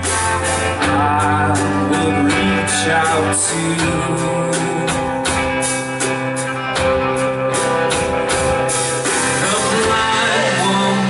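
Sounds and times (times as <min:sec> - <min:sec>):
drum kit steady beat: 0:00.0 - 0:11.0
guitars and sustained chords: 0:00.0 - 0:11.0
worship band playing: 0:00.0 - 0:11.0.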